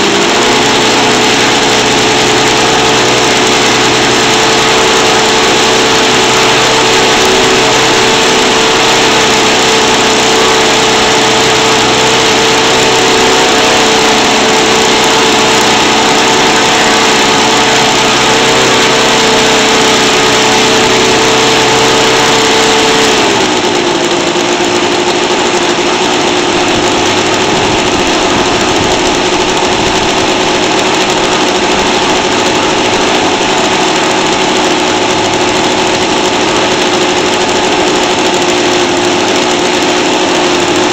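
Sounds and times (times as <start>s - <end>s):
model engine running: 0.0s - 40.9s.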